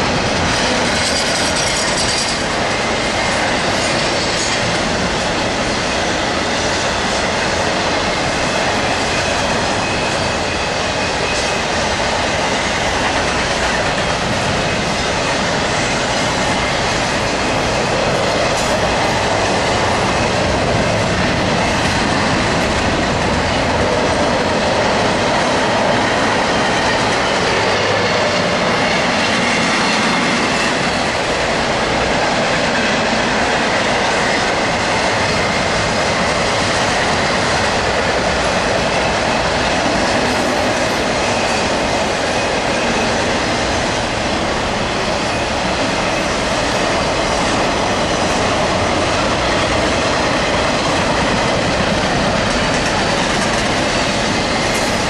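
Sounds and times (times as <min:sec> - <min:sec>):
freight train wheels rolling: 0:00.0 - 0:55.0.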